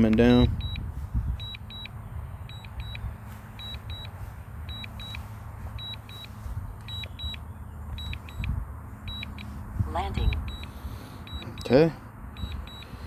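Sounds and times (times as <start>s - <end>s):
remote controller beeping: 0.1s - 9.6s, 10.2s - 10.7s, 11.3s - 11.8s, 12.4s - 13.0s.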